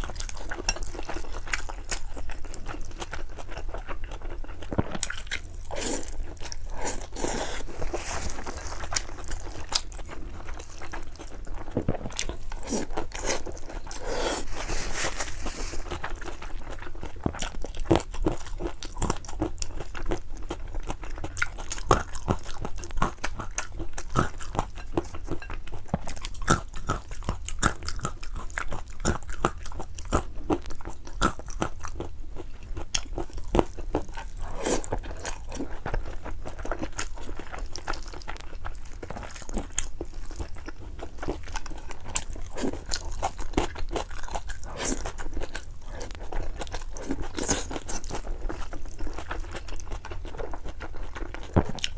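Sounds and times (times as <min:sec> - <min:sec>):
mouth chewing noodles: 0:00.0 - 0:51.9.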